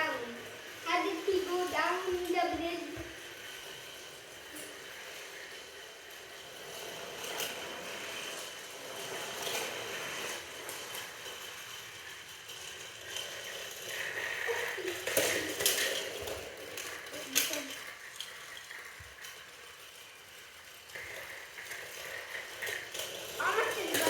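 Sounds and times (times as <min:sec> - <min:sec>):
light rattling: 0:00.0 - 0:24.0
toy train motors whirring: 0:00.0 - 0:24.0.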